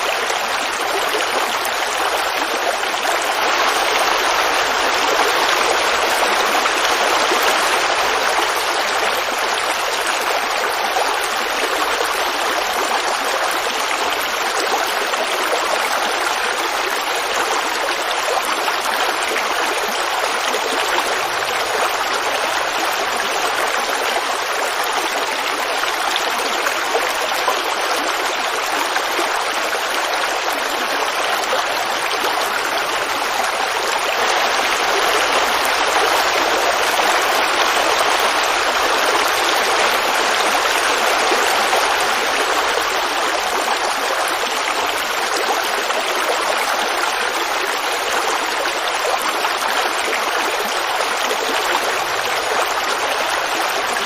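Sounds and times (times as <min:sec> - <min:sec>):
creek water babbling over stones: 0:00.0 - 0:54.0.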